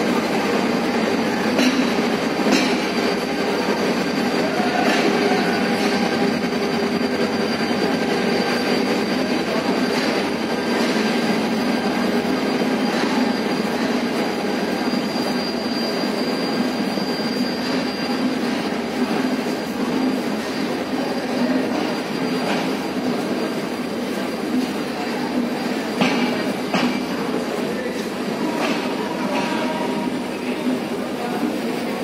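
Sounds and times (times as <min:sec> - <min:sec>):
train wheels rolling on rails: 0:00.0 - 0:32.0.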